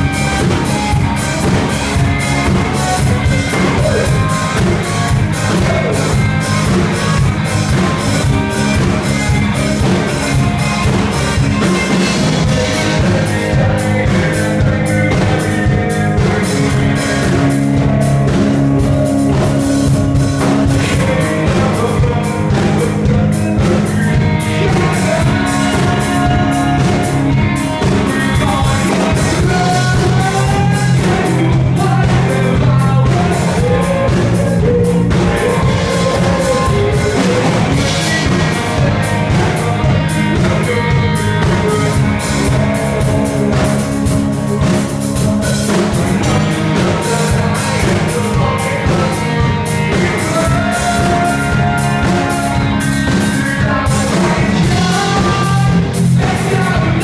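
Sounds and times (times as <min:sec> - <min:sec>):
person singing: 0:00.0 - 0:57.0
rock band playing live: 0:00.0 - 0:57.0.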